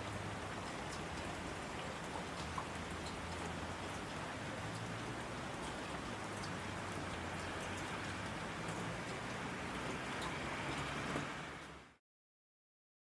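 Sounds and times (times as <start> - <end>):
raindrops ticking on a surface: 0.0 - 12.0
steady rain hiss: 0.0 - 12.0.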